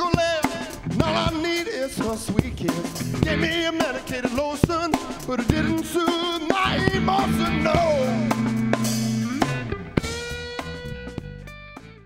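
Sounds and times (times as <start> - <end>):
drum kit hits: 0.0 - 11.9
blues band playing: 0.0 - 12.0
electric guitar: 0.0 - 12.0.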